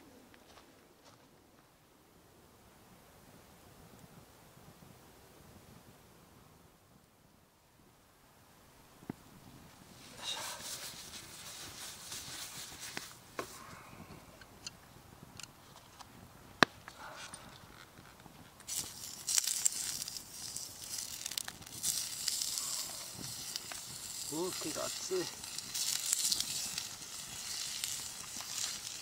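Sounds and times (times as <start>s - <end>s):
campfire crackling and hissing: 0.1s - 29.0s.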